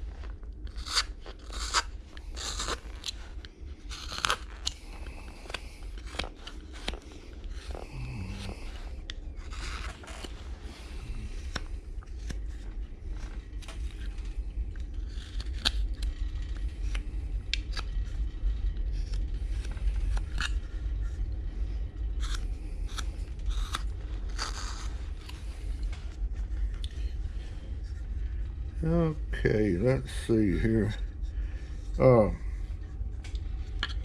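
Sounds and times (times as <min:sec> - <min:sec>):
knife carving wood: 0:00.0 - 0:28.1, 0:30.7 - 0:34.0
low steady hum: 0:00.0 - 0:34.0.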